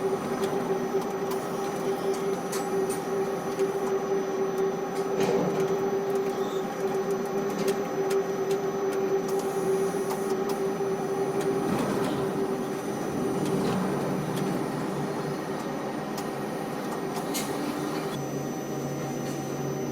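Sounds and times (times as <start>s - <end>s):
crane machinery humming and whining: 0.0s - 19.9s.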